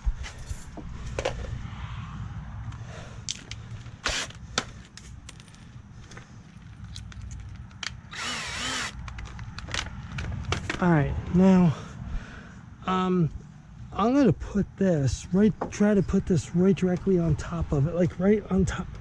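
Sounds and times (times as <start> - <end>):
low background rumble: 0.0 - 18.8.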